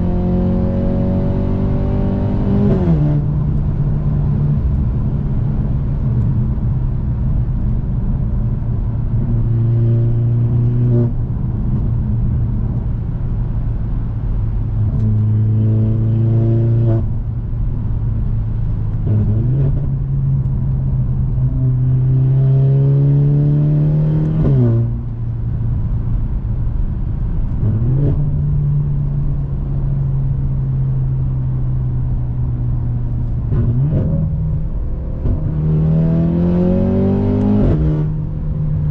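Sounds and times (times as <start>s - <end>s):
car engine droning and pulling: 0.0s - 38.9s.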